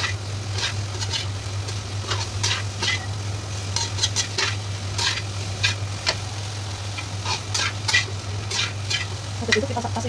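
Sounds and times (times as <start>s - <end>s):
metal spatula scraping a wok: 0.0s - 6.2s, 7.0s - 9.7s
light frying sizzle: 0.0s - 10.0s.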